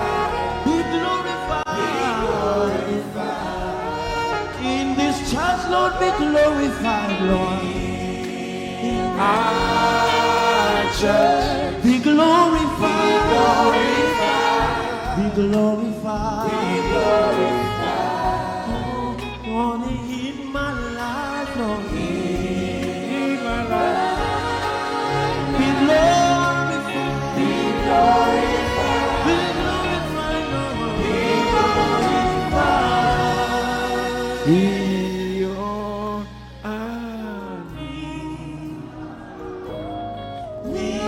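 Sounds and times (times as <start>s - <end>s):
choir singing gospel: 0.0s - 41.0s
low instrumental backing: 0.0s - 41.0s.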